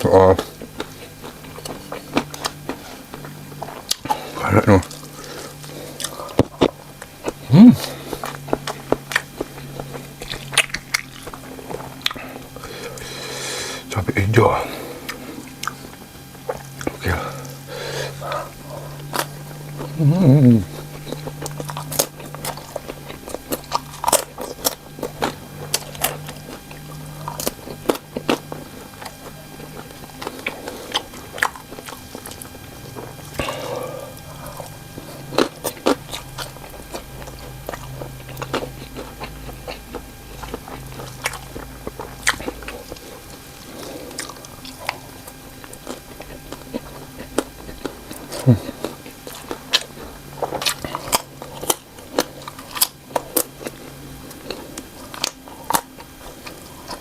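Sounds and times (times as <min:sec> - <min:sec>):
steady low hum: 0:00.0 - 0:57.0
chewing mouth sounds: 0:00.3 - 0:13.2, 0:15.0 - 0:57.0.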